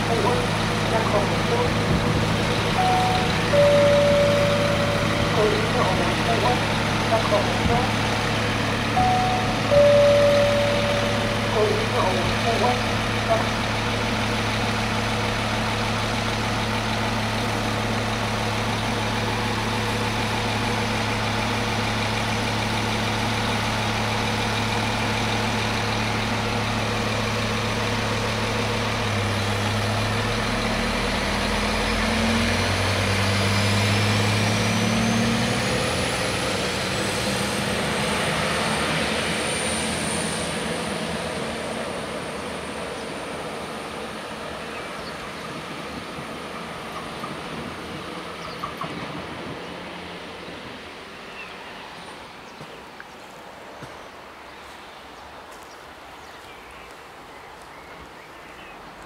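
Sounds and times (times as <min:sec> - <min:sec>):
diesel railcar engine: 0:00.0 - 0:59.0.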